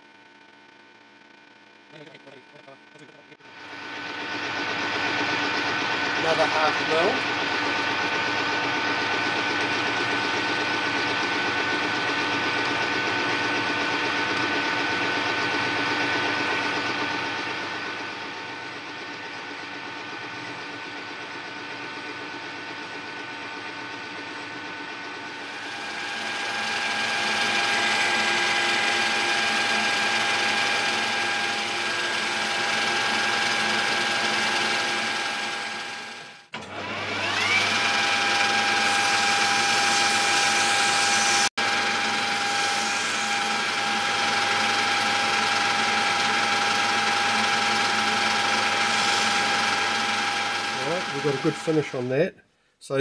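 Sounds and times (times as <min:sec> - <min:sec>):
metal lathe gear whine: 0:03.5 - 0:23.7, 0:24.3 - 0:52.1.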